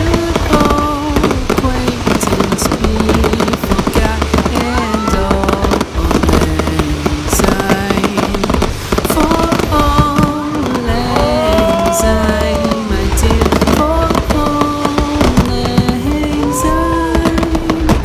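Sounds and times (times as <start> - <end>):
fireworks crackling and popping: 0.0 - 18.0
music with held notes and low bass: 0.0 - 18.0.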